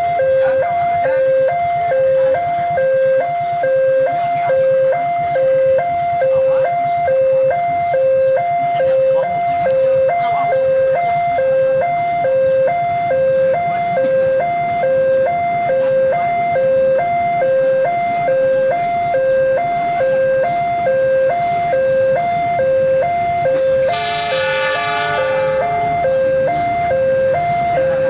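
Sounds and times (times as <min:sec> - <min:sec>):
two-tone crossing alarm: 0:00.0 - 0:28.0.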